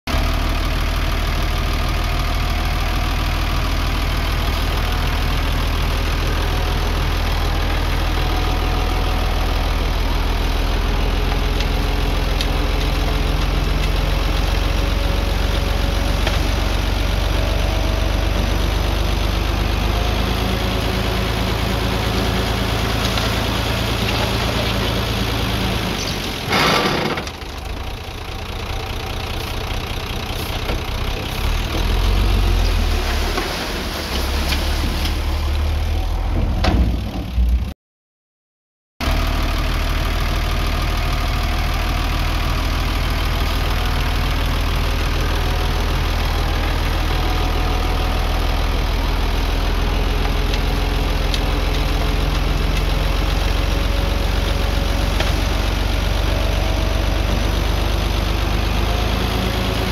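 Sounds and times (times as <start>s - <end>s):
diesel engines rumbling: 0.1s - 37.7s, 39.0s - 59.9s.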